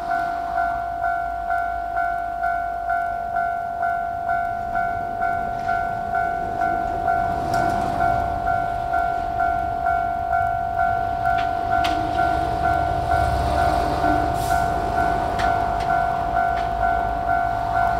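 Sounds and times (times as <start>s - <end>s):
level crossing warning bell: 0.0s - 17.9s.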